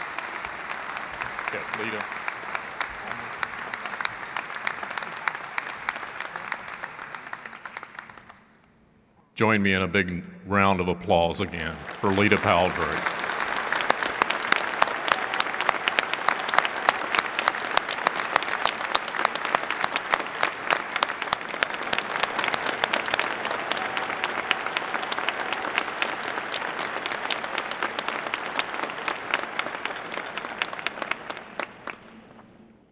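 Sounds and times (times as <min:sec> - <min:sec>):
crowd applauding: 0:00.0 - 0:08.6, 0:11.4 - 0:32.8.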